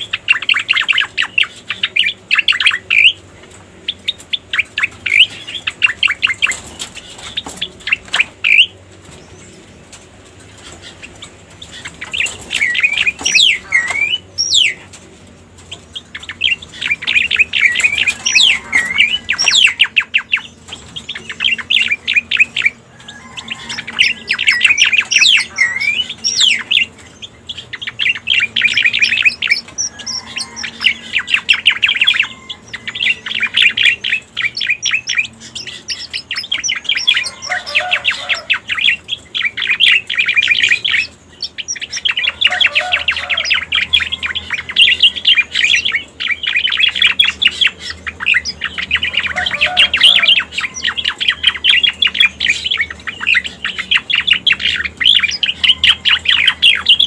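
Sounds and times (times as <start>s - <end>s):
bird song with chirps and whistles: 0.0s - 15.0s, 15.6s - 57.0s.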